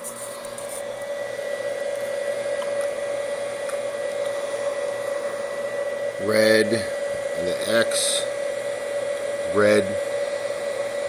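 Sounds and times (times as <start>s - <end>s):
small fan whirring: 0.0s - 11.0s.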